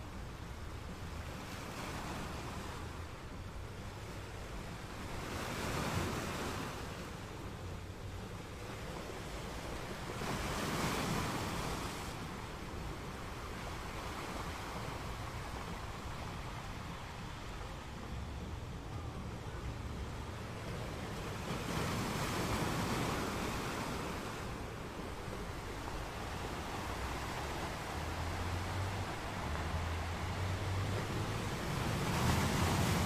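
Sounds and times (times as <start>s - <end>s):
sea waves washing: 0.0s - 33.0s
wind rumble on microphone: 0.0s - 33.0s.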